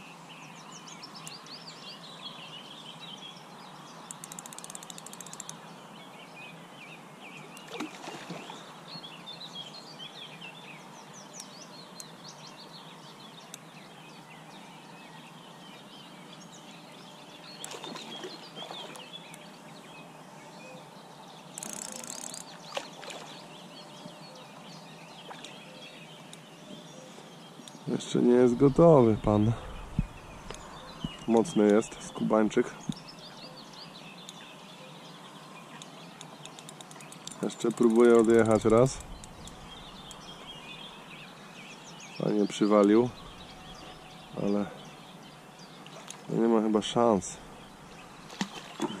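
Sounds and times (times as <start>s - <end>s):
songbirds chirping and singing: 0.0s - 49.0s
steady outdoor hiss: 0.0s - 49.0s.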